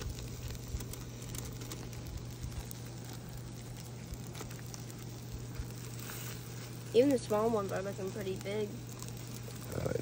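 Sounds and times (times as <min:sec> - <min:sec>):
burger patties crackling on grill: 0:00.0 - 0:10.0
steady low hum: 0:00.0 - 0:10.0.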